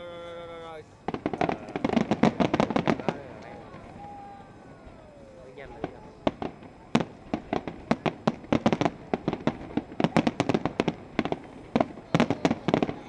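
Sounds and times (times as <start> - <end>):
fireworks bangs: 0.6 - 13.0.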